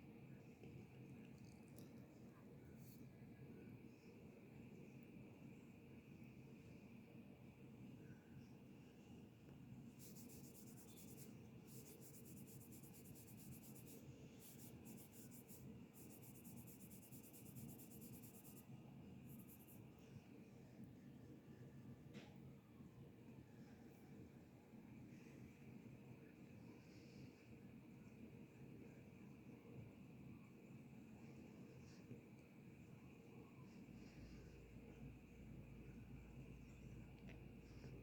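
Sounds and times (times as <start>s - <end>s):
faint high hum: 0.0s - 38.0s.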